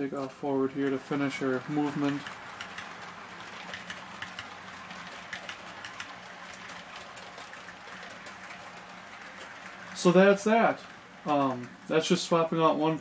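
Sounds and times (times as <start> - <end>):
model train wheels clicking: 0.0 - 13.0.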